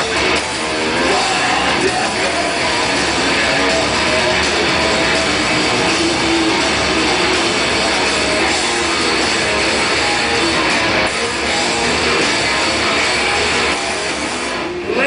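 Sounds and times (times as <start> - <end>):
metalcore band playing live: 0.0 - 15.0.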